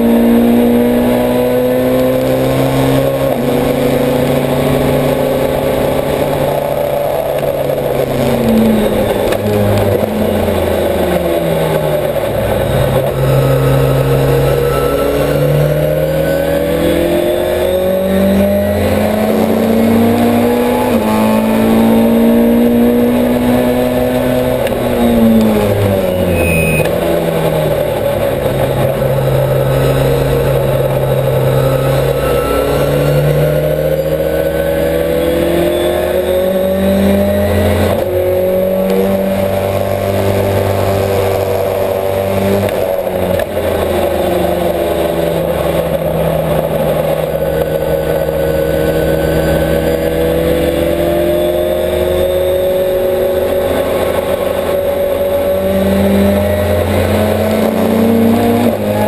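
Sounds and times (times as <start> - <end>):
race car engine from inside cabin: 0.0 - 59.0.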